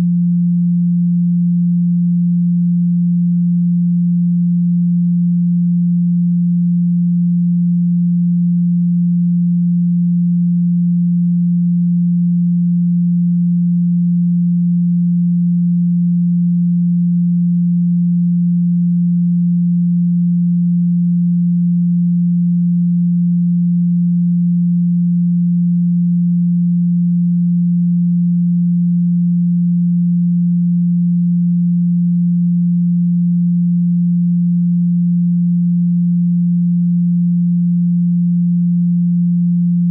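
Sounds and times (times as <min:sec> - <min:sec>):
steady low pure tone: 0:00.0 - 0:39.9.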